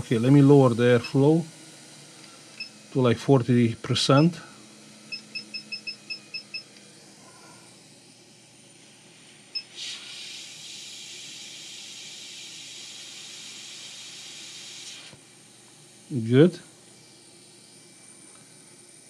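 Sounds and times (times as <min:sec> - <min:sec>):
hot air hissing from nozzle: 0:00.0 - 0:05.1, 0:06.9 - 0:19.0.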